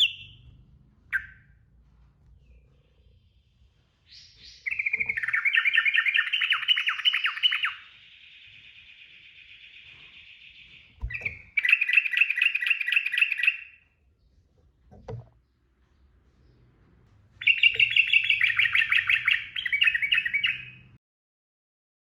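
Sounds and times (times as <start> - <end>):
bulbul singing: 0.0 - 16.7, 17.3 - 21.0.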